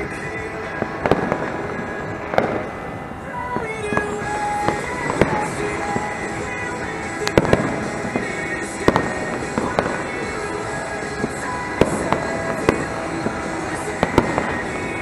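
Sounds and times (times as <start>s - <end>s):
fireworks bangs: 0.0s - 15.0s
steady background noise: 0.0s - 15.0s.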